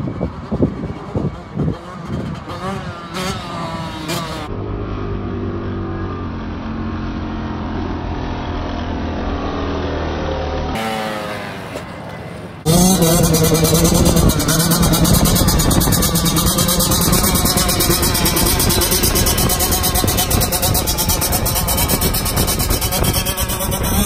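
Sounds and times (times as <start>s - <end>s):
two-stroke dirt bike engine revving: 0.1s - 6.0s, 9.7s - 11.9s, 12.6s - 24.0s.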